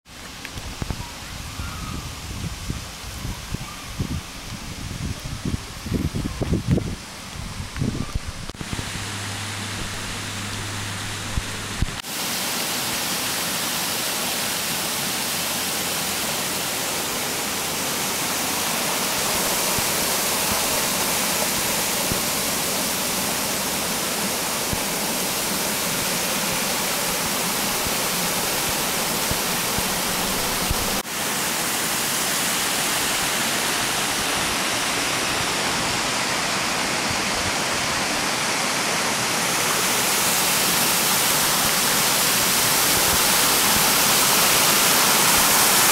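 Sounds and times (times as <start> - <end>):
water rushing down waterfall: 0.1 - 45.9.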